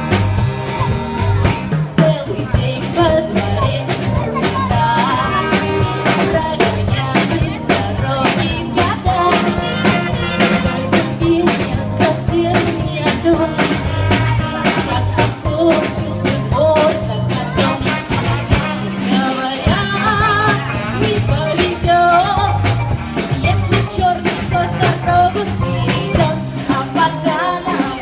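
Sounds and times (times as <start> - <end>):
drum kit rimshots: 0.0 - 28.0
jazz orchestra playing: 0.0 - 28.0.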